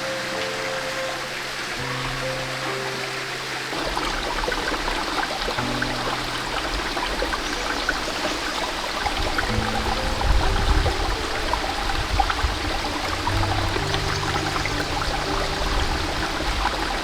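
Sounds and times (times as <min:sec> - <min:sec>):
soft music with held notes: 0:00.0 - 0:17.0
stream water trickling: 0:00.0 - 0:17.0.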